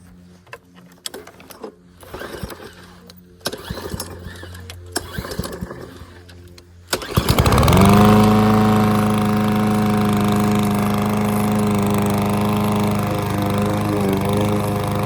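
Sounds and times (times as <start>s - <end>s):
mower engine starting: 1.1s - 15.0s.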